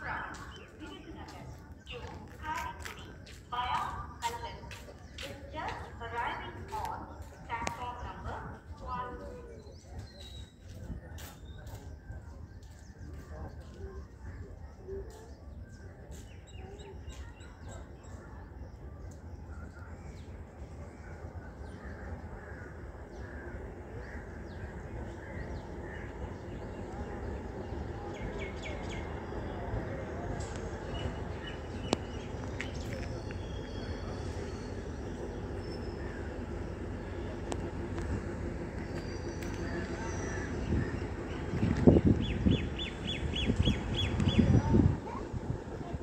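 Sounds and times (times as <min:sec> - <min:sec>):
approaching train rumble: 0:00.0 - 0:46.0
birds chirping: 0:00.0 - 0:46.0.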